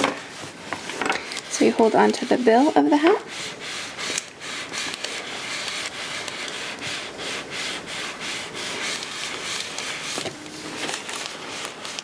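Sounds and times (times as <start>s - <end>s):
heat plate rubbing over paper: 0.0s - 12.0s.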